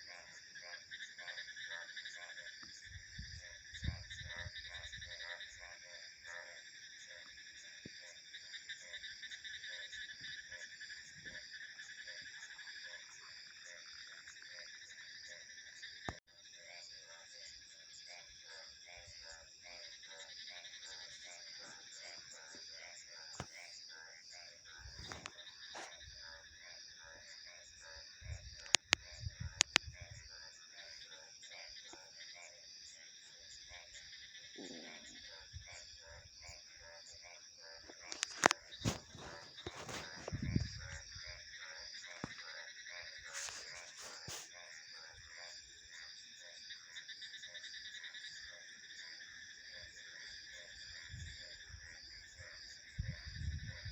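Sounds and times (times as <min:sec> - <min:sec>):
chorus of animal calls: 0:00.0 - 0:16.0, 0:16.6 - 0:29.2, 0:30.0 - 0:53.9
frogs croaking: 0:00.0 - 0:53.9.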